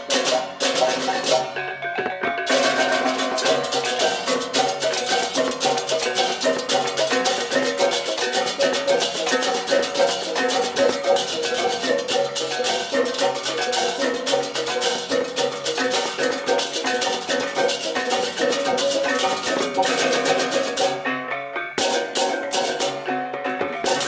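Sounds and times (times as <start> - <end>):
fast cymbal and drum playing: 0.0 - 1.5, 2.5 - 21.0, 21.8 - 23.0
ringing gongs and metallophones: 0.0 - 24.0.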